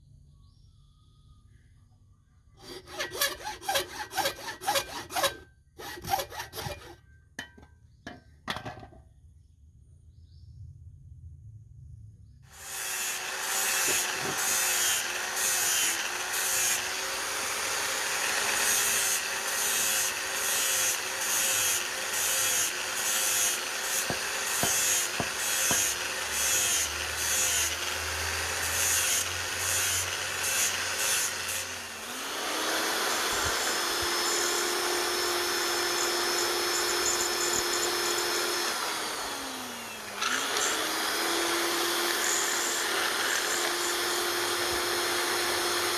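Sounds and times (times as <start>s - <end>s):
power tool grinding: 2.6s - 7.0s, 12.5s - 45.9s.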